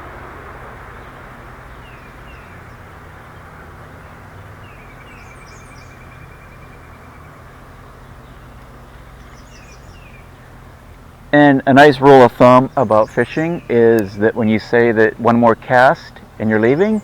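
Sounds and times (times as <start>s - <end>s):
rushing background noise: 0.0s - 17.0s
small birds chirping: 0.9s - 17.0s.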